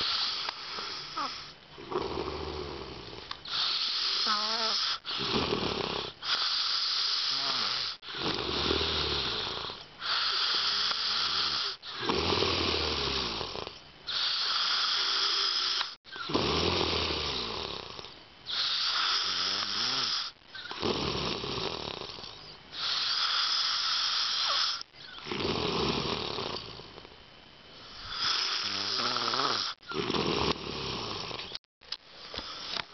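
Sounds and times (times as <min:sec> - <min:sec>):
man snoring loudly: 0:00.0 - 0:27.0, 0:28.0 - 0:31.6.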